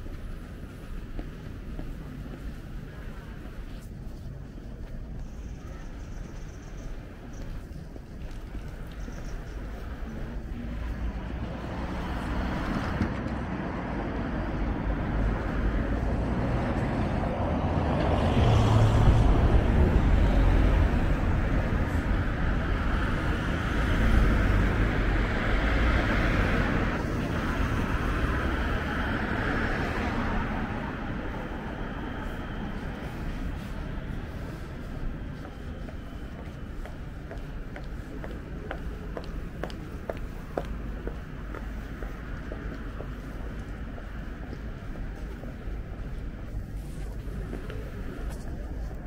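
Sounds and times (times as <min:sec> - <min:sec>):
vehicles passing: 0:00.0 - 0:49.0
deep engine rumble: 0:07.7 - 0:49.0.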